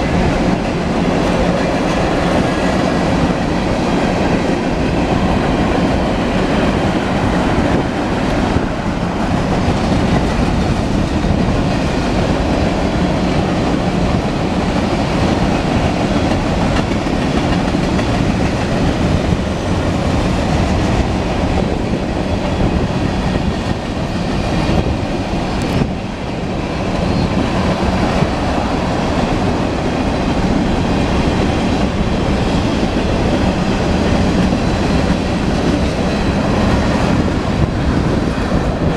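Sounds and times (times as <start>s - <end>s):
freight train wheels on rails: 0.0s - 38.9s.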